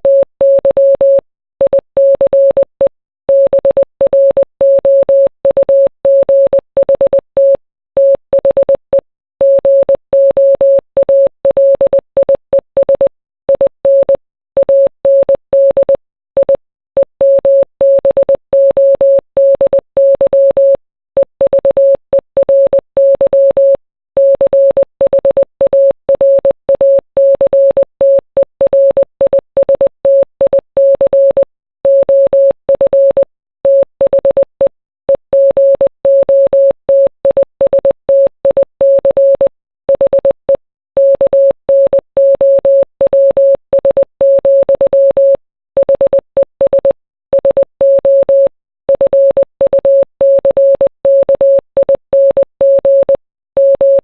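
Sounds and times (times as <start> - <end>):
morse code beeps: 0.0 - 54.0.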